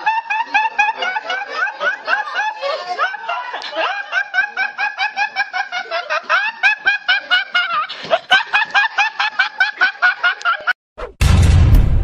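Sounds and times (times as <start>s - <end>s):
boy laughing uncontrollably: 0.0s - 10.8s.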